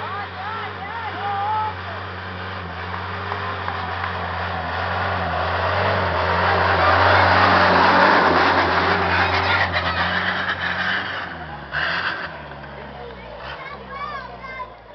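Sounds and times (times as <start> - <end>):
suv engine climbing: 0.0 - 14.9.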